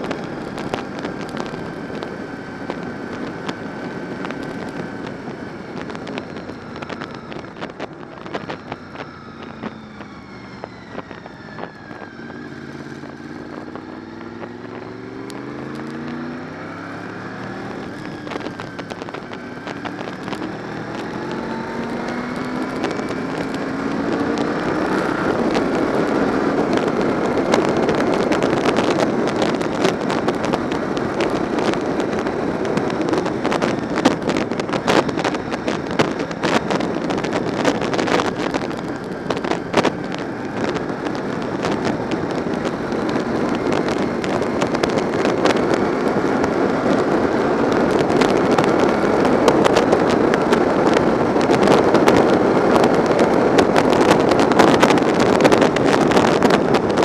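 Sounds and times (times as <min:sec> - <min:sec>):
motorcycle engine pulling hard: 0:00.0 - 0:57.0
wind buffeting microphone: 0:00.0 - 0:57.0.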